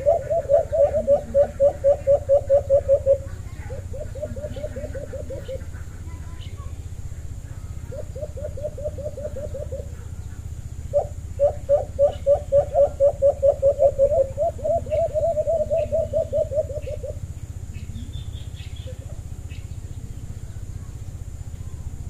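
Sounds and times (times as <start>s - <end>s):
dove calling short rising notes: 0.0s - 22.0s
small birds chirping: 0.0s - 22.0s.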